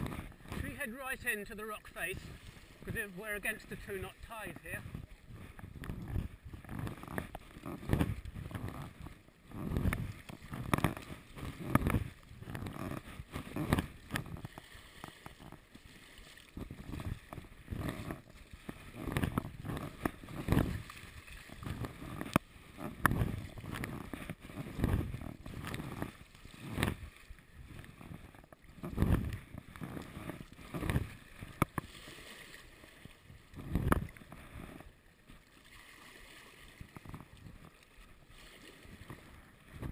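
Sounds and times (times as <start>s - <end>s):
paddle blades splashing: 0.0s - 39.9s
waves slapping kayak hull: 0.0s - 39.9s.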